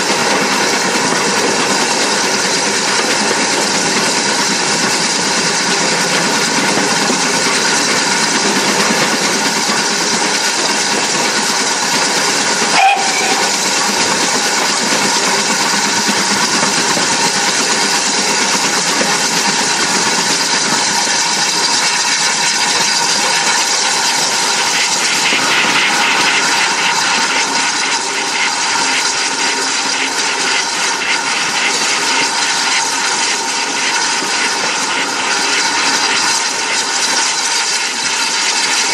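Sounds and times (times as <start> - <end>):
steam locomotive hissing: 0.0 - 38.9.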